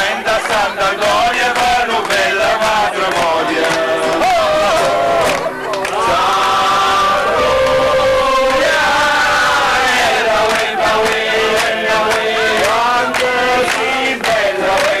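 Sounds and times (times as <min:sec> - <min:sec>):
group singing folk song: 0:00.0 - 0:15.0.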